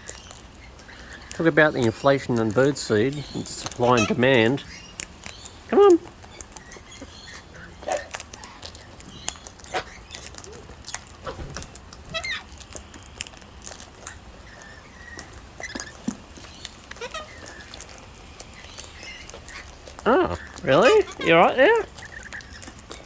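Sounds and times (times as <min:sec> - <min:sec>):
small clicks and rustles: 0:00.0 - 0:03.9, 0:04.6 - 0:23.0
birds squawking and chirping: 0:00.0 - 0:23.0.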